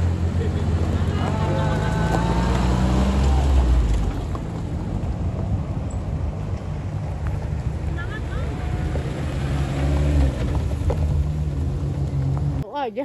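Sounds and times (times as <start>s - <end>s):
engine droning: 0.0s - 12.6s.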